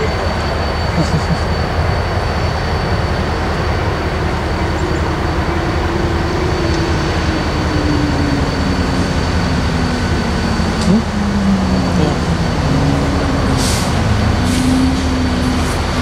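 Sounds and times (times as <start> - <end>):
diesel locomotive idling: 0.0 - 16.0.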